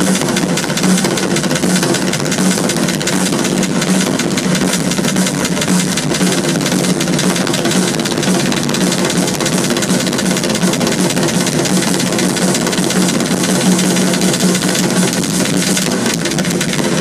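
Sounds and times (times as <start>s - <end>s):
rock drum solo: 0.0s - 17.0s.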